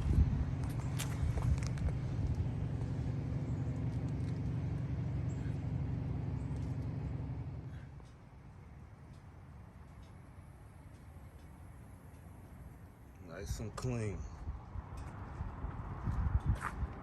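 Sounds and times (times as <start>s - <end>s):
low mechanical motor hum: 0.0s - 17.0s.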